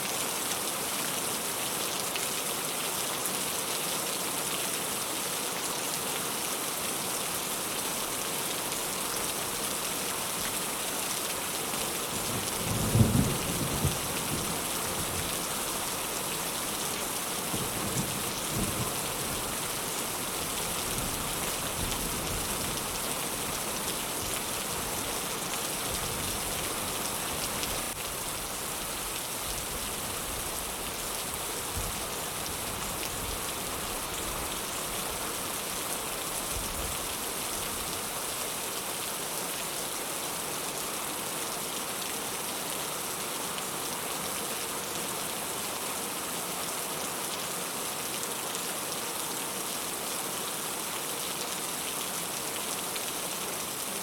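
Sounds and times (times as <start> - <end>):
heavy rain falling: 0.2 - 46.2.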